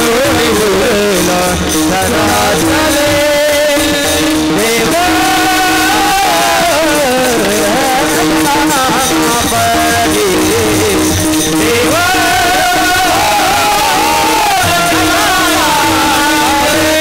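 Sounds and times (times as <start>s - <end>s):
hand cymbals struck: 0.0s - 17.0s
men singing together: 0.0s - 17.0s.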